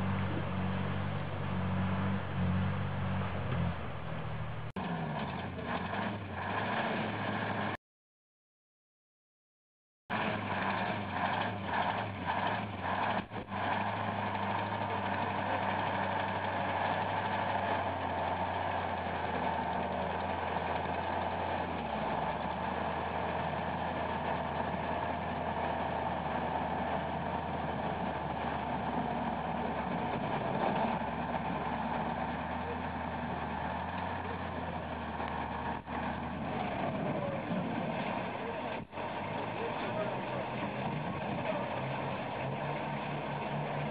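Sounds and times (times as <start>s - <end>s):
truck diesel engine under load: 0.0s - 7.8s, 10.1s - 43.9s.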